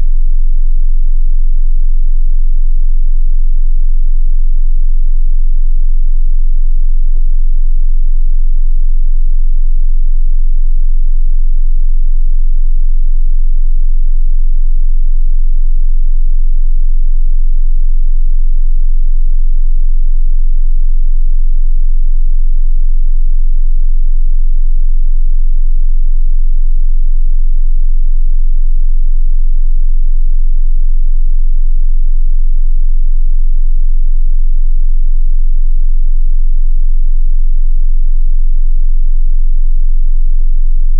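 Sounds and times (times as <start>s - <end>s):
deep bass test tone: 0.0s - 40.9s.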